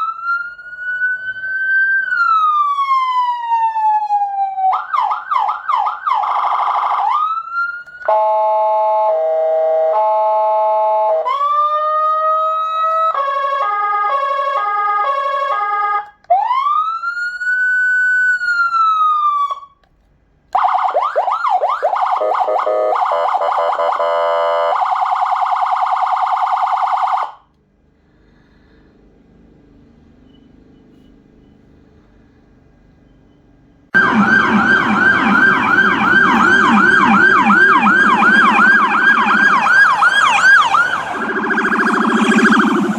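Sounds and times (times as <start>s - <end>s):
electronic vehicle siren: 0.0s - 19.8s, 20.5s - 27.5s, 34.0s - 42.9s.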